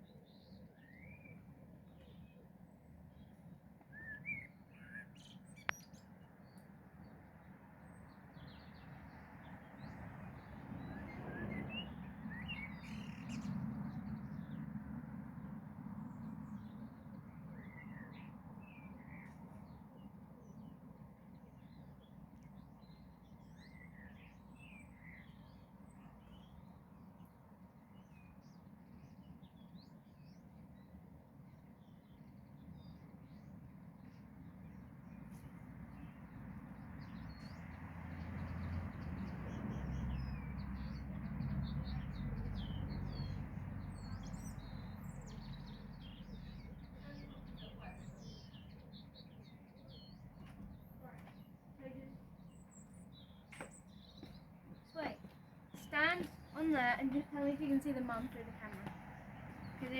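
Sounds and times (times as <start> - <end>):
small birds chirping: 0.0 - 14.7, 16.1 - 59.9.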